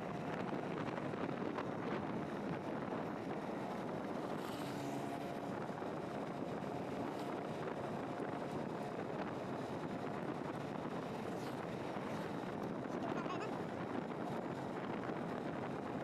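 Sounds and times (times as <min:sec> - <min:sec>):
road noise from moving vehicle: 0:00.0 - 0:16.0
wind rushing over microphone: 0:00.0 - 0:16.0.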